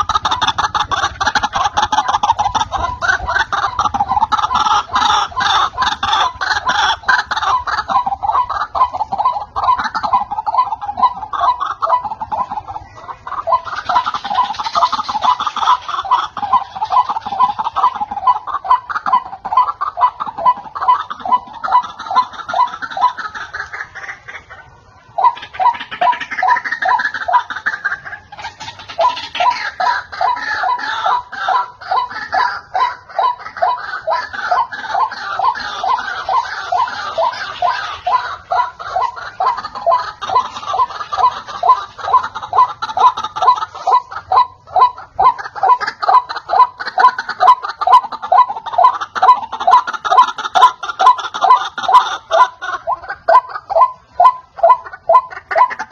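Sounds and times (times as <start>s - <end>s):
waterhen calling harsh notes: 0.0s - 55.9s.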